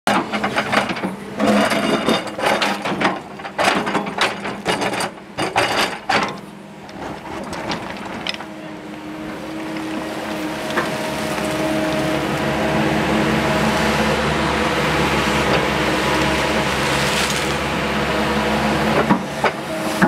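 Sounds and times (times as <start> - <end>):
excavator bucket scraping rock: 0.1 - 8.7, 9.3 - 12.6, 13.3 - 20.0
excavator engine and hydraulics: 0.1 - 20.0.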